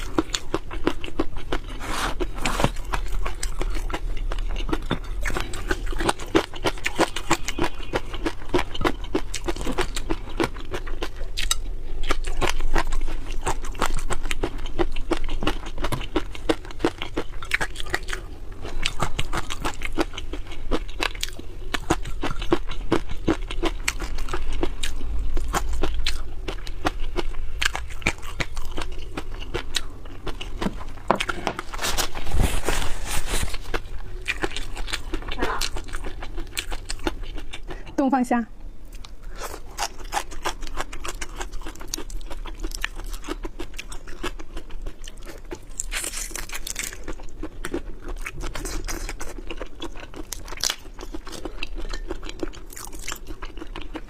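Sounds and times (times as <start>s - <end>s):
crunching and chewing: 0.0s - 38.0s, 38.8s - 54.0s.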